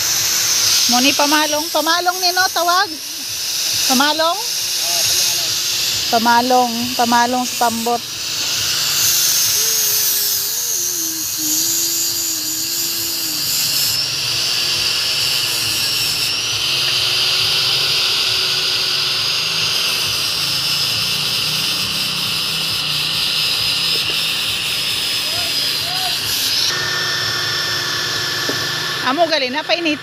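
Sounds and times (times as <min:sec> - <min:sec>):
power tool motor whining: 0:00.0 - 0:30.0.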